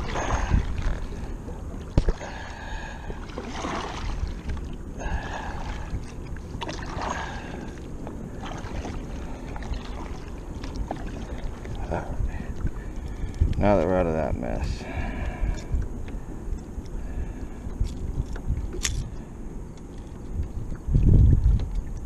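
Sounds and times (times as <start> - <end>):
water lapping against kayak hull: 0.0 - 22.0
wind rumble on microphone: 0.0 - 22.0.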